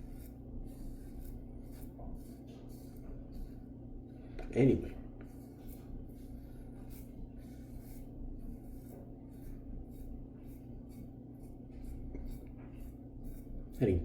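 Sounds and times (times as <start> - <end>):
razor scraping stubble: 0.0 - 3.8, 4.5 - 14.0
steady low hum: 0.0 - 14.0.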